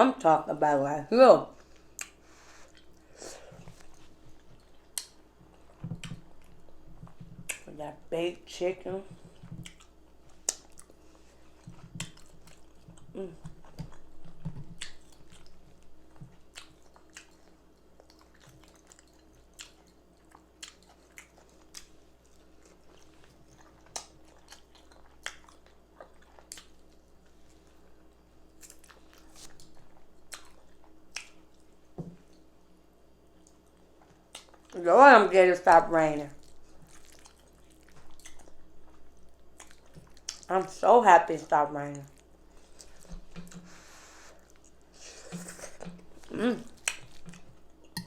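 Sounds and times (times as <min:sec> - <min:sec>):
chewing and mouth smacks: 0:01.7 - 0:03.0, 0:03.6 - 0:07.6, 0:09.2 - 0:32.5, 0:33.4 - 0:34.8, 0:36.4 - 0:40.5, 0:42.1 - 0:48.0.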